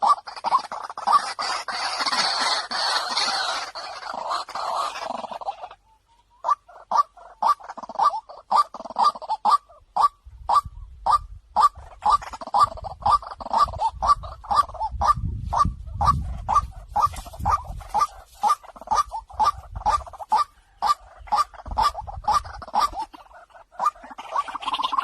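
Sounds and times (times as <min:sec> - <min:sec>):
waterhen calling harsh notes: 0:00.0 - 0:25.0.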